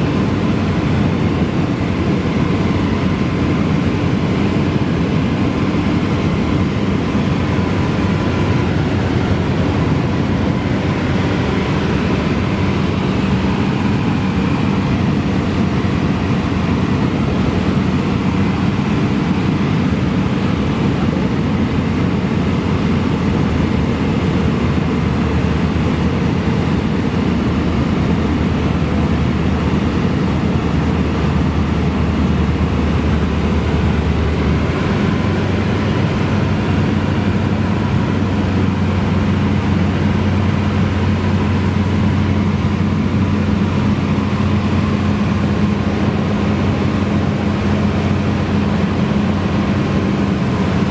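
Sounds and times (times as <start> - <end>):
airplane engine droning in cabin: 0.0 - 50.9.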